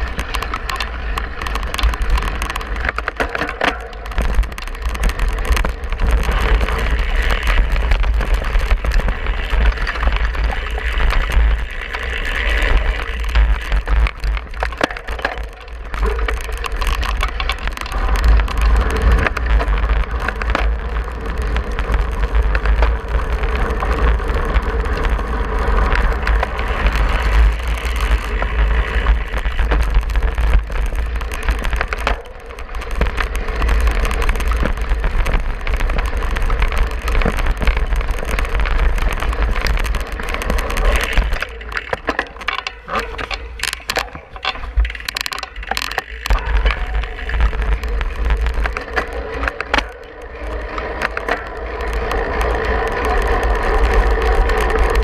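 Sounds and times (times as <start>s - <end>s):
bike tyres crunching on dirt: 0.0s - 55.0s.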